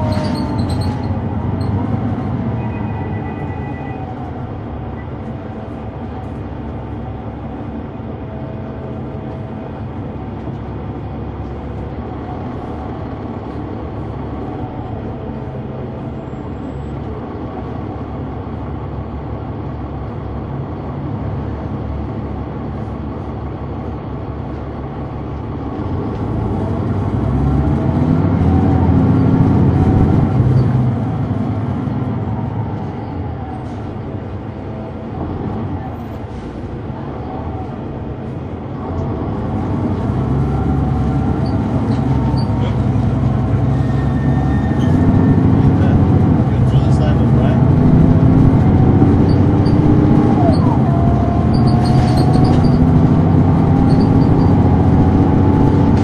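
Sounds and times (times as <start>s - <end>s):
bus engine running with whine: 0.0s - 56.0s.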